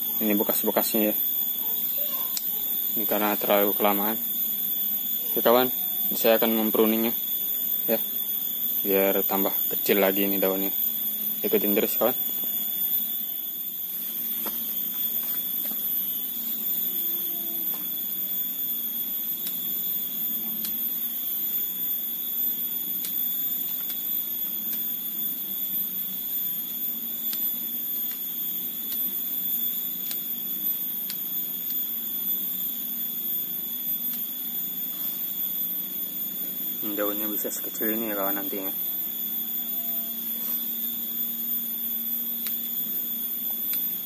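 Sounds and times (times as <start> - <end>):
high-pitched whine: 0.0 - 44.0.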